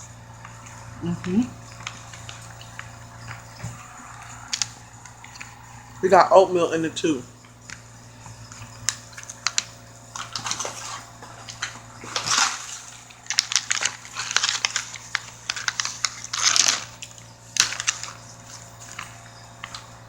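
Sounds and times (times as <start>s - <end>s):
low steady hum: 0.0s - 20.0s
snack crunching while eaten: 0.4s - 5.9s, 7.6s - 20.0s.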